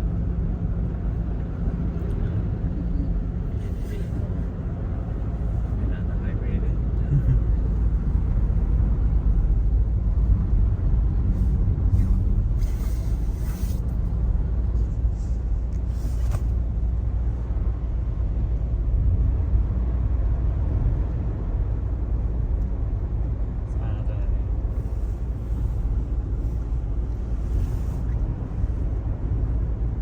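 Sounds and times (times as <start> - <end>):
car road rumble from inside: 0.0 - 30.0.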